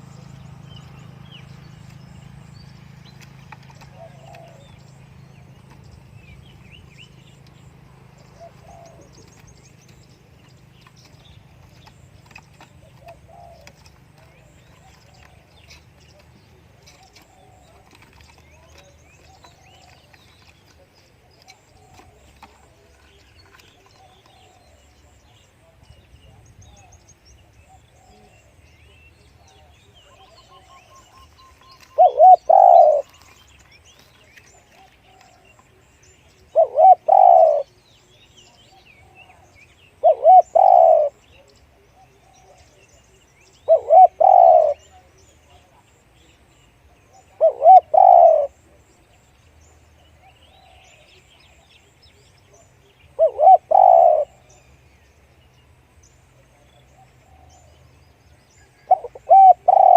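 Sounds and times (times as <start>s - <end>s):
dove cooing: 0.0s - 45.9s, 46.9s - 49.0s, 50.1s - 51.6s, 52.4s - 54.6s, 56.4s - 57.8s, 58.6s - 59.9s.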